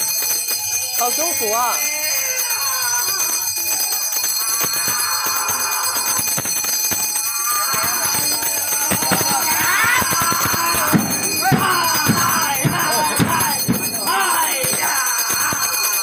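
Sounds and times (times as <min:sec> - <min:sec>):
ritual bells ringing: 0:00.0 - 0:16.0
voices calling out: 0:00.0 - 0:16.0.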